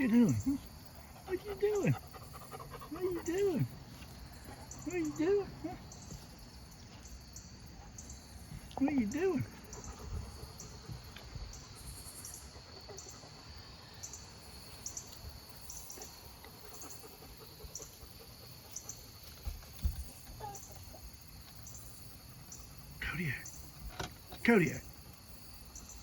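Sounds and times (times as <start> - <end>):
high insect drone: 0.0 - 26.0
insects chirping: 0.0 - 26.0.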